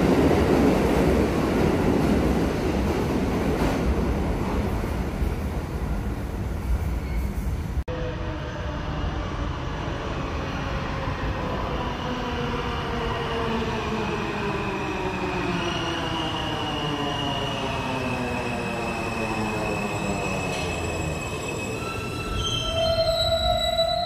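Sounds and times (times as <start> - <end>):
subway train rumble: 0.0 - 24.0.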